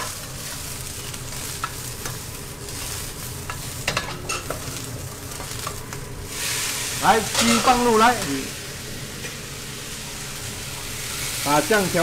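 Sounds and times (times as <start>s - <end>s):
leaves sizzling in hot oil: 0.0s - 12.0s.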